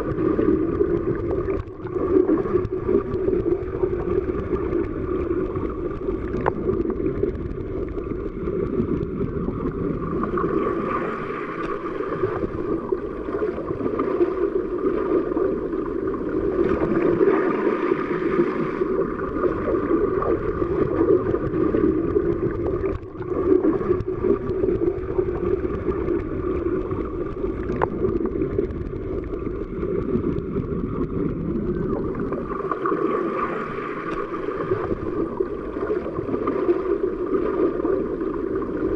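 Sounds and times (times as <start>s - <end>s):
muffled underwater rush: 0.0s - 38.9s.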